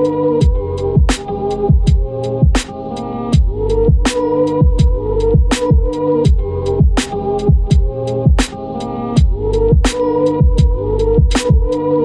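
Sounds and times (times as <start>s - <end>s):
deep bass drum hits: 0.4s - 2.6s, 3.4s - 8.5s, 9.2s - 11.7s.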